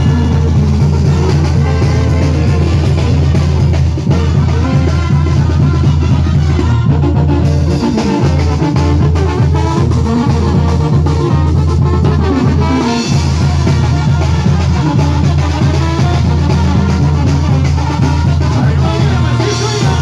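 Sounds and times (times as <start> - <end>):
drum kit and percussion: 0.0 - 20.0
heavy bass line: 0.0 - 20.0
live band playing dance music: 0.0 - 20.0.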